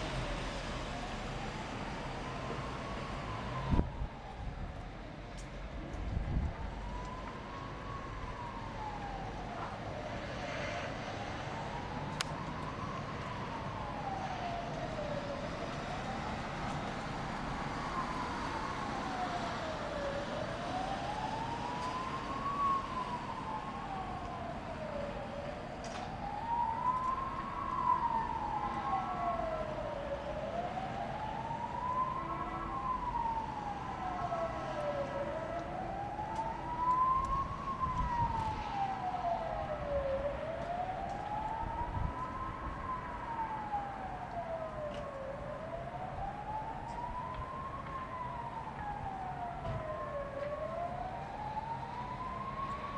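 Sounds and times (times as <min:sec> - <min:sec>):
emergency vehicle siren wailing: 0:00.0 - 0:52.9
fainter siren wail: 0:00.0 - 0:52.9.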